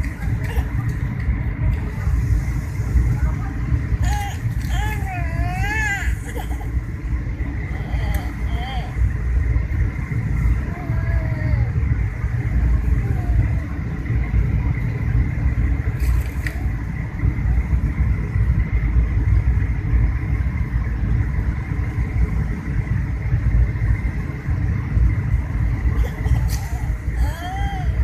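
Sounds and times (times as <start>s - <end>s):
airliner cabin engine rumble: 0.0s - 28.0s
faint steady whine: 0.0s - 28.0s.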